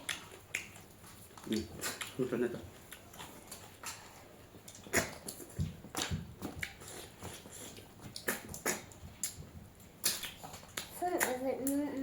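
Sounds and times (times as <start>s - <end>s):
mouth chewing smacks: 0.0s - 11.8s.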